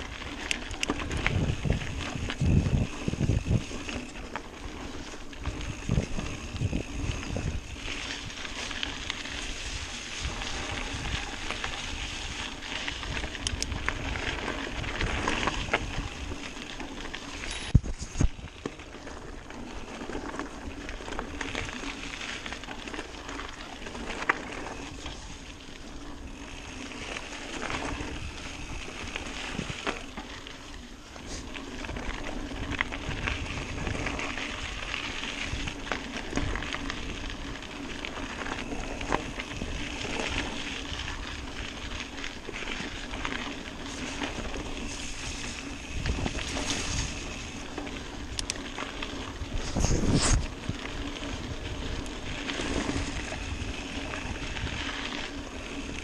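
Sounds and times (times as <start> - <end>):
bike rattles: 0.0 - 56.0
bike tyre riding noise: 0.0 - 56.0.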